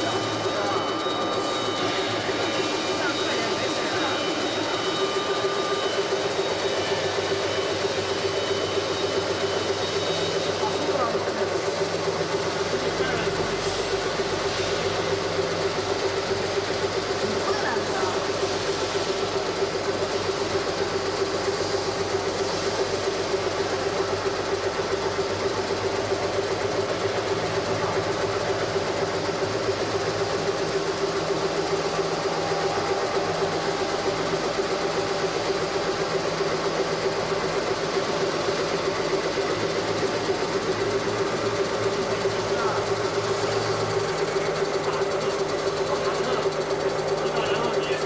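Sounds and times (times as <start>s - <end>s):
lathe motor humming: 0.0s - 48.0s.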